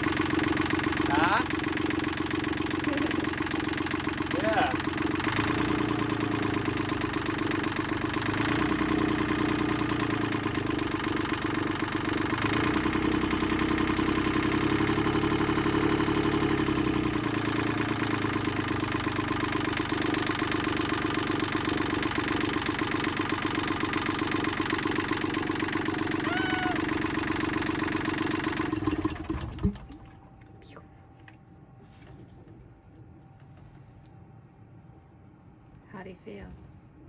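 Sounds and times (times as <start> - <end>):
marine diesel idling: 0.0 - 30.6.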